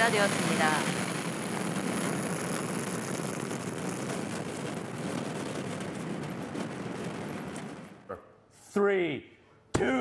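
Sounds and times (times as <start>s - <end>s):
rocket engine rumble: 0.0s - 8.1s.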